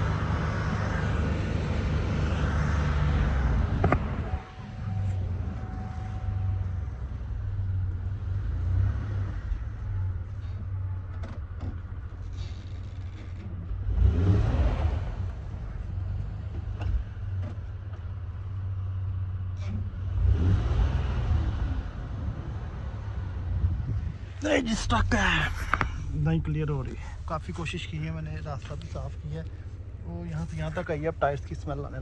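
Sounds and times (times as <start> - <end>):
van engine droning and revving: 0.0 - 32.0.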